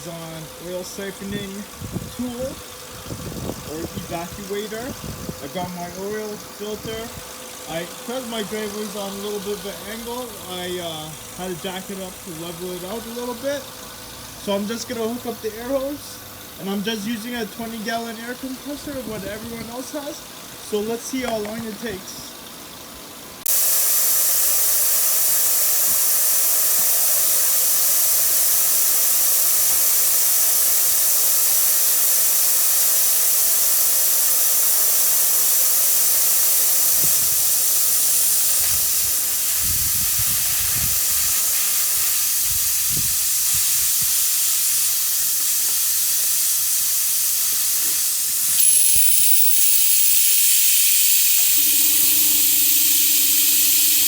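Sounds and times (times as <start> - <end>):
compressed air hissing: 0.0 - 22.2, 22.9 - 54.0.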